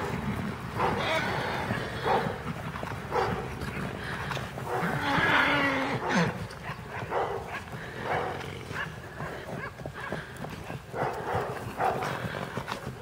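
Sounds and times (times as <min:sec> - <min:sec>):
drawn-out animal call: 0:00.0 - 0:13.0
hoofbeats thudding on grass: 0:00.0 - 0:13.0.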